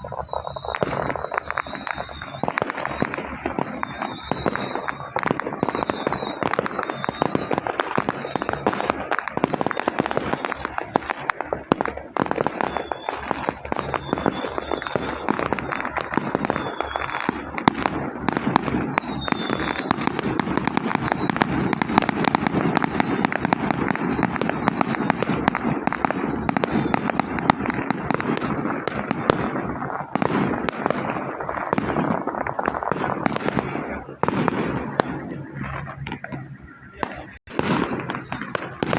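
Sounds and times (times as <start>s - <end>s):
firecrackers popping: 0.0s - 38.9s.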